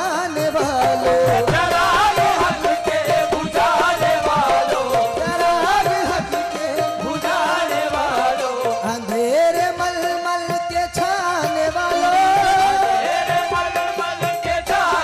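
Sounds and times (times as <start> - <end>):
harmonium melody: 0.0 - 15.0
male voices singing: 0.0 - 15.0.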